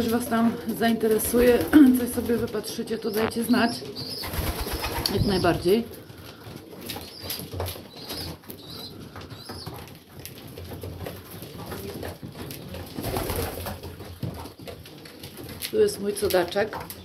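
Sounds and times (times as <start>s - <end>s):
pigeons cooing: 0.0s - 15.6s
beaks pecking grain: 0.0s - 17.0s.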